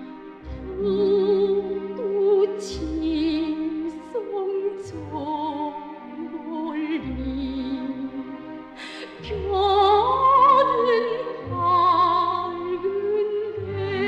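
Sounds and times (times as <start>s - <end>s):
orchestral accompaniment: 0.0s - 14.0s.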